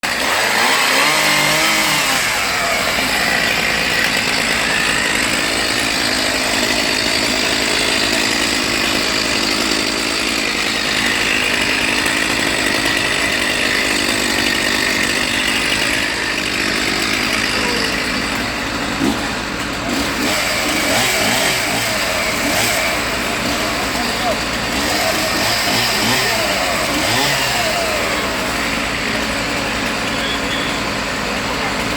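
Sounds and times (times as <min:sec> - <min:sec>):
chainsaw running: 0:00.0 - 0:31.9.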